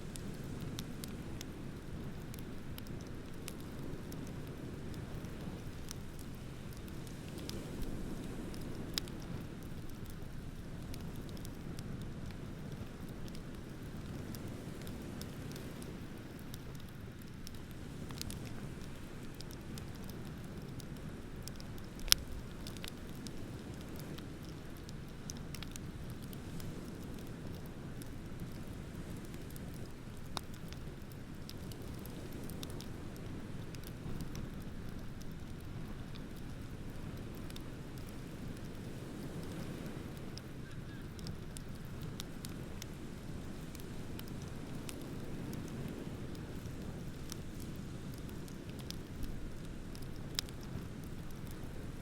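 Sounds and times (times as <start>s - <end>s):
bonfire crackling and popping: 0.0s - 52.0s.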